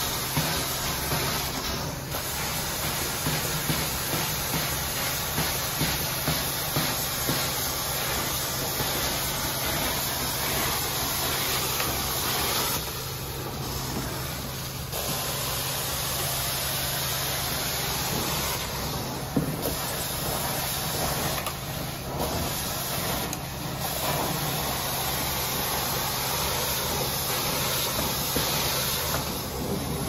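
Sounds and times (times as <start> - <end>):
hiss of spray and suction: 0.0 - 30.0.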